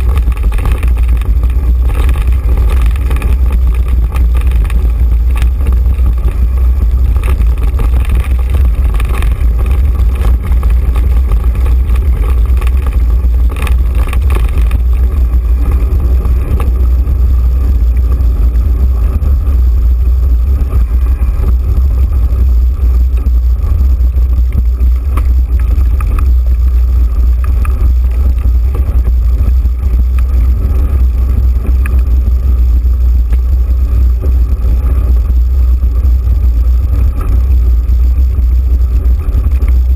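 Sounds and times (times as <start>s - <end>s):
bike rattling over ground: 0.0s - 39.9s
wind buffeting microphone: 0.0s - 39.9s.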